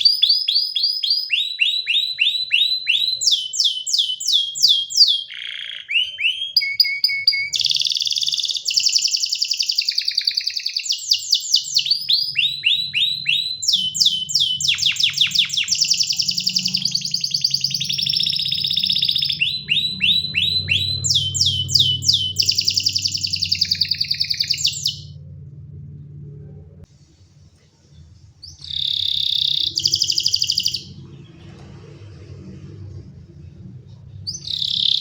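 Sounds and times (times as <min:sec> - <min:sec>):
canary singing rapid trills: 0:00.0 - 0:25.2, 0:28.4 - 0:31.2, 0:34.3 - 0:35.0.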